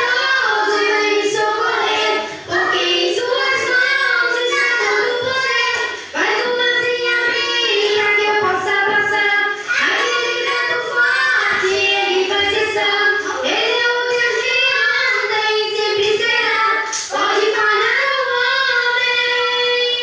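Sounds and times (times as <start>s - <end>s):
child singing: 0.0s - 20.0s.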